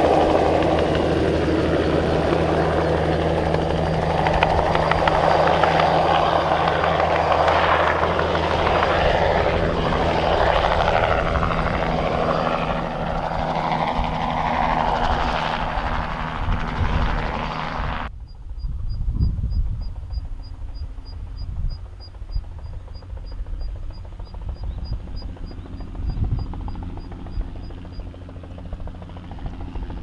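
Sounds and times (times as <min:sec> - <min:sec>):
helicopter rotor and turbine: 0:00.0 - 0:30.0.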